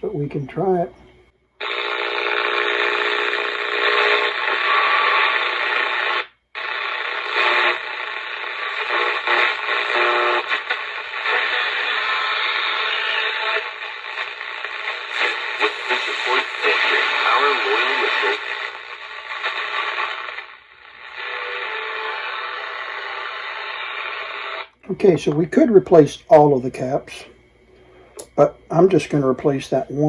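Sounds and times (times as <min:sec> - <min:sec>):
radio static hiss: 0:01.6 - 0:30.0.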